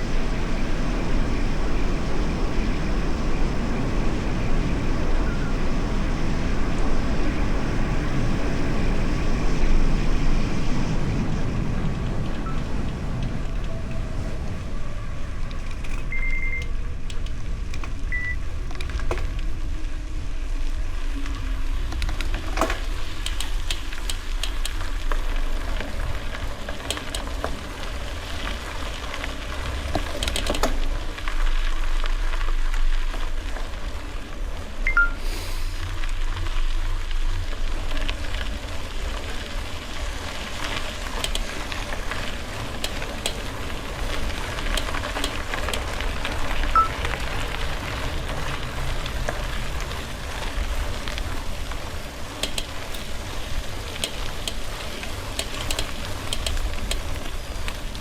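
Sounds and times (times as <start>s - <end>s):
bicycle tyres on gravel: 0.0s - 58.0s.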